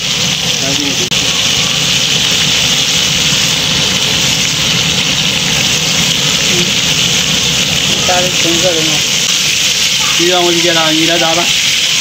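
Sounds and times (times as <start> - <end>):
fish deep-frying in sizzling oil: 0.0 - 12.0.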